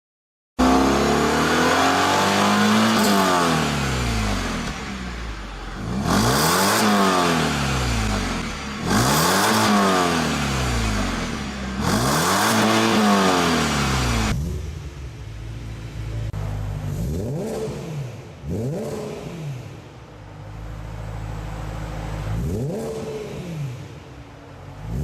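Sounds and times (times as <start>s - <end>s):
car engine revving: 0.6s - 25.0s.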